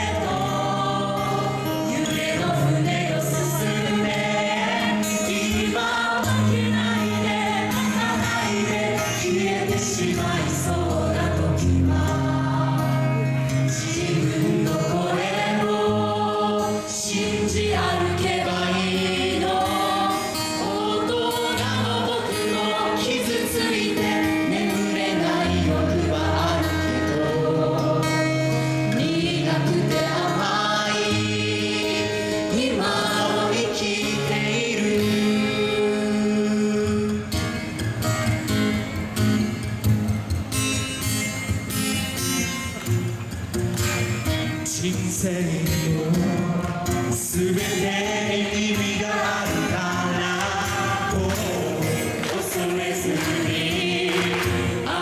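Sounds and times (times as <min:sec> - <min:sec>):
choir singing slow song: 0:00.0 - 0:37.6, 0:46.0 - 0:55.0.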